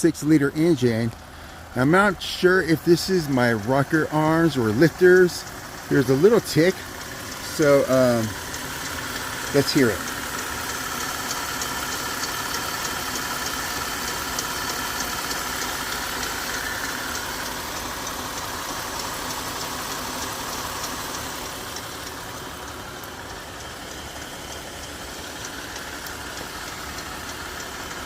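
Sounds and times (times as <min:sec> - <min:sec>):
car engine idling: 0:00.0 - 0:28.0
valvetrain ticking: 0:00.0 - 0:28.0.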